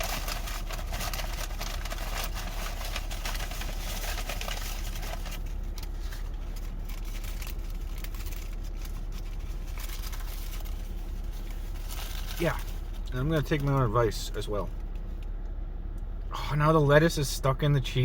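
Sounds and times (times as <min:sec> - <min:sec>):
burger wrapper crackling: 0:00.0 - 0:15.4
steady low hum: 0:00.0 - 0:18.0.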